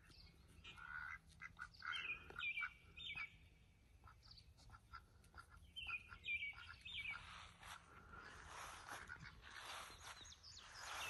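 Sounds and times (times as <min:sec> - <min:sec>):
soft bird calls: 0:00.0 - 0:11.0.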